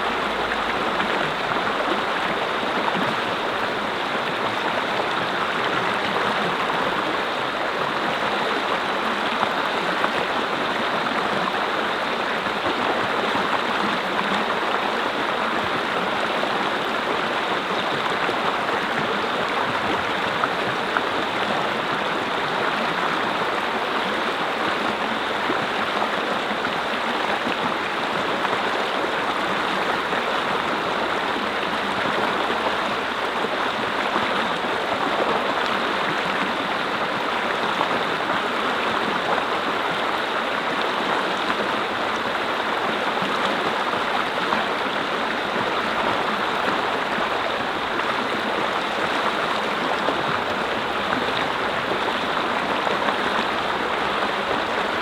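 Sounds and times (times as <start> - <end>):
brook flowing over rocks: 0.0 - 55.0.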